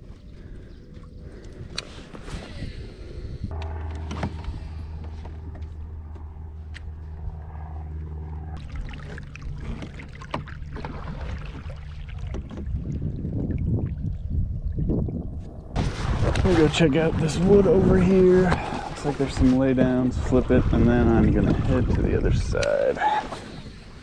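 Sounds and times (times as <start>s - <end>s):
low motor hum: 0.0s - 22.6s
low rumbling: 0.0s - 24.0s.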